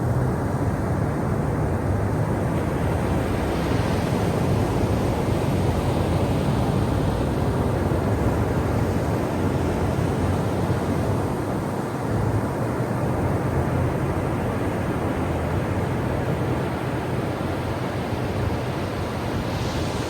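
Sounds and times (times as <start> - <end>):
ocean surf washing on shore: 0.0 - 20.0.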